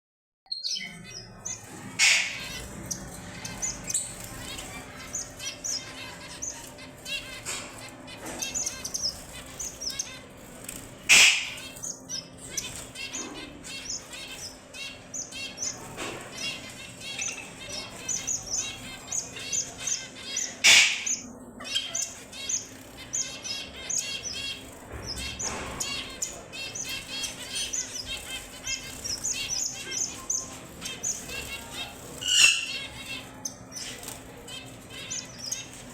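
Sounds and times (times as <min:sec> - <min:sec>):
finches chirping and twittering: 0:00.5 - 0:35.9.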